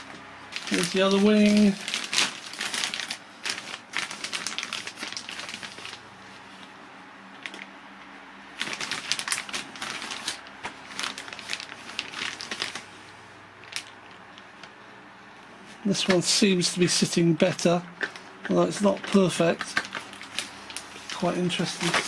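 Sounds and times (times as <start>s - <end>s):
plastic bag crinkling: 0.0s - 6.7s, 7.4s - 7.7s, 8.5s - 13.0s, 13.6s - 14.4s, 15.9s - 22.0s.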